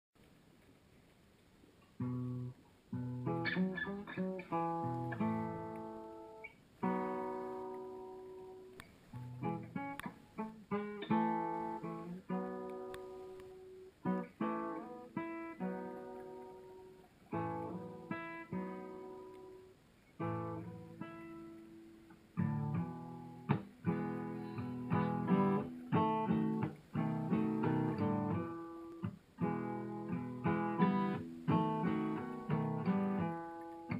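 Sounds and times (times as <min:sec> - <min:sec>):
guitar playing: 0:02.0 - 0:33.9.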